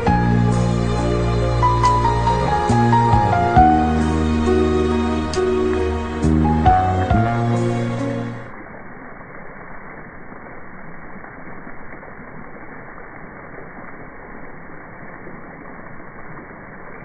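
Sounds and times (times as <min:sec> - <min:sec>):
muffled outdoor rushing hiss: 0:00.0 - 0:17.0.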